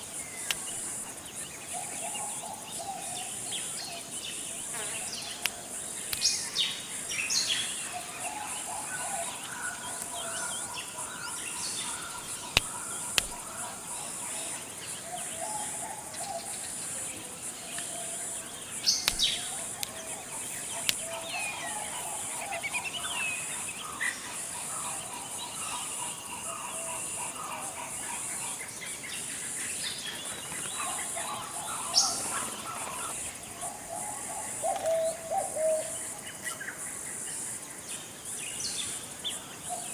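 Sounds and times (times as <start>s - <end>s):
birds calling and chirping: 0.0s - 36.9s
high insect drone: 0.0s - 39.9s.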